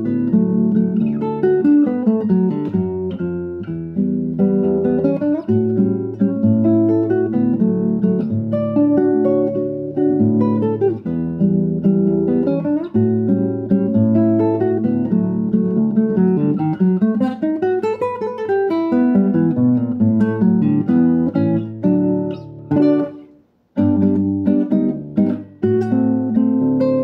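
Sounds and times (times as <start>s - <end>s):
classical guitar fingerstyle: 0.0s - 27.0s.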